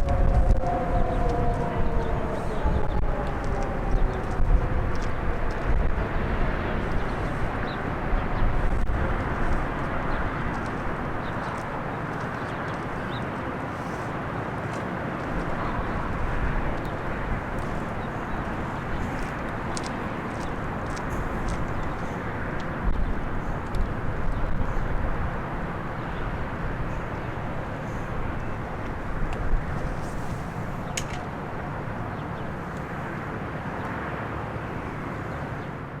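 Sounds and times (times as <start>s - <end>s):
road traffic rumble: 0.0s - 36.0s
steady outdoor rushing noise: 0.0s - 36.0s.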